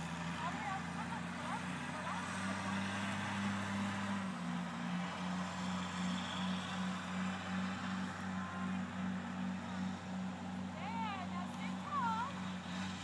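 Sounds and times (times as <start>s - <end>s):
pulsing low engine hum: 0.0s - 13.0s.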